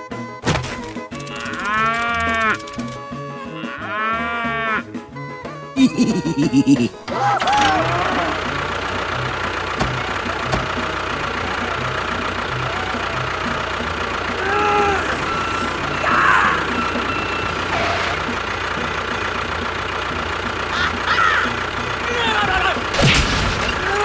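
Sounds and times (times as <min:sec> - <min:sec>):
tractor engine idling: 0:00.0 - 0:04.0, 0:05.0 - 0:24.0.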